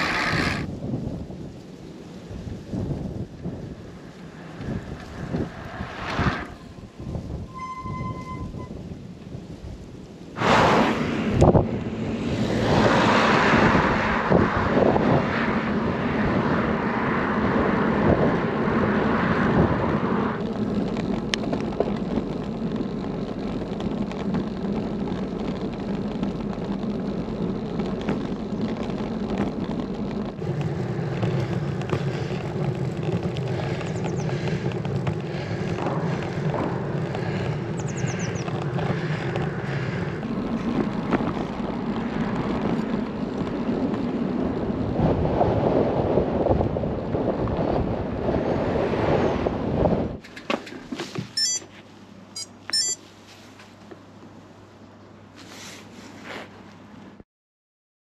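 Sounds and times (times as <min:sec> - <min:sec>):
rushing air: 0:00.0 - 0:50.2
bicycle tyre roar: 0:00.0 - 0:51.6.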